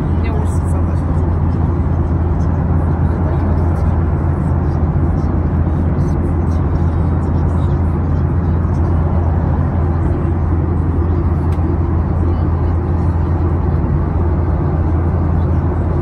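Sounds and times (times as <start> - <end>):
airliner engine drone: 0.0 - 16.0.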